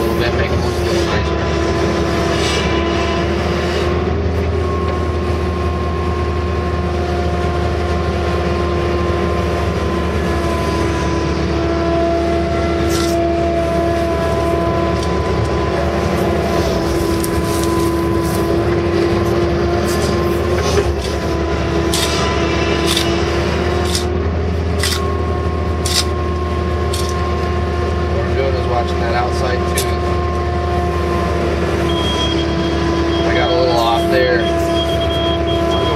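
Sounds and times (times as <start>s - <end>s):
diesel engine droning: 0.0s - 35.9s
steady whine: 0.0s - 35.9s.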